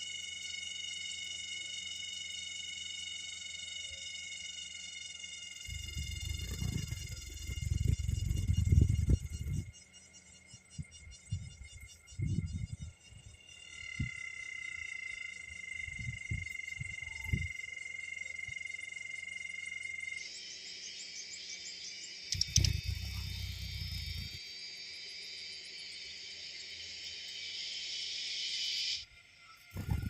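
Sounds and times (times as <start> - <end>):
insect chorus droning: 0.0 - 30.0.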